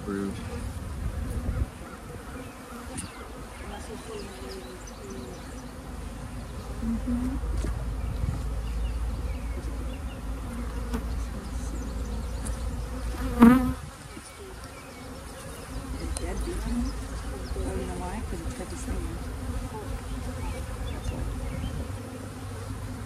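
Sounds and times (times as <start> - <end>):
swarm of bees buzzing: 0.0 - 23.0
single bee buzzing close by: 0.1 - 23.0.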